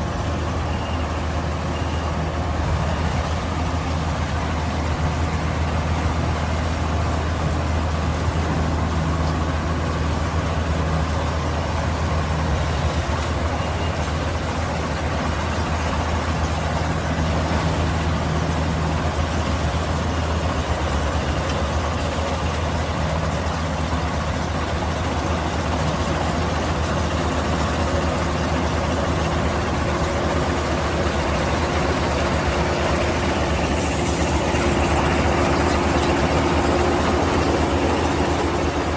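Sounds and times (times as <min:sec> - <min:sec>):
diesel engine running: 0:00.0 - 0:38.9
harvesting machinery whirring: 0:00.0 - 0:38.9.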